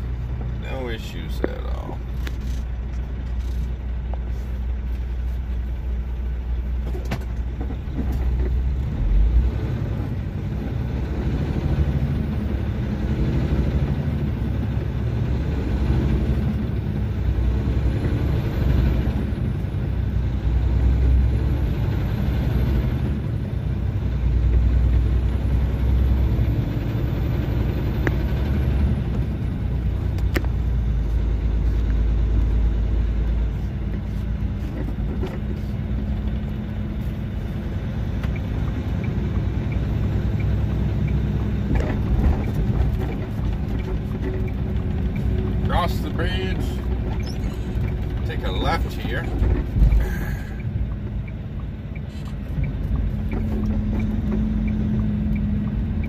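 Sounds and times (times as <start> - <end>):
road noise: 0.0 - 56.0
truck diesel engine rumble: 0.0 - 56.0.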